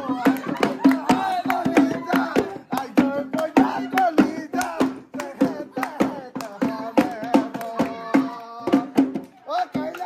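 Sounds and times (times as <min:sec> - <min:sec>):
drum beaten in quick rhythm: 0:00.0 - 0:10.0
voices singing: 0:00.0 - 0:10.0.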